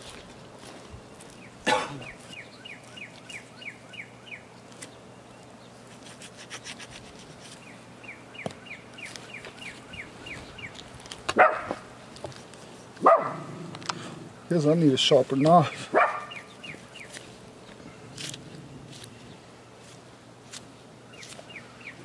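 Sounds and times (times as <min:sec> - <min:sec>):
songbird chirping: 0:00.6 - 0:05.9, 0:07.4 - 0:11.7, 0:12.7 - 0:22.0.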